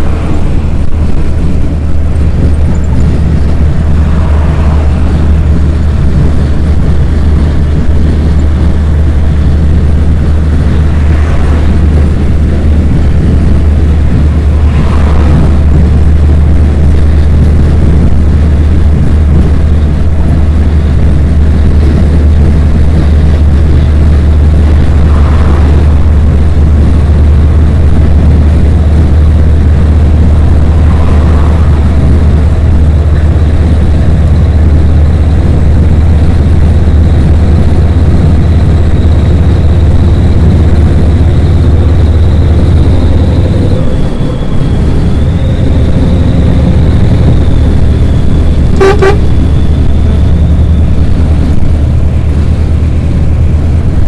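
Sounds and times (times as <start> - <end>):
heavy trucks rumbling past: 0.0 - 54.0.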